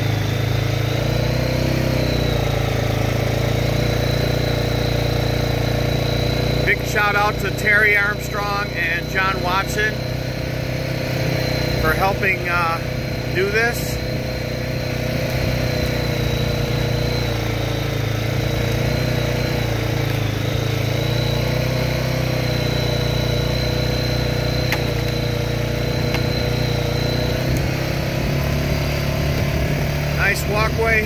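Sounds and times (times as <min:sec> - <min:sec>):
off-road vehicle engine running: 0:00.0 - 0:31.0
thin steady whine: 0:00.0 - 0:31.0.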